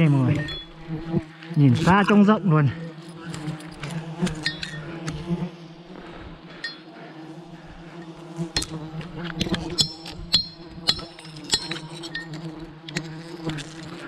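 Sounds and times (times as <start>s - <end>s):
bees humming: 0.0s - 14.0s.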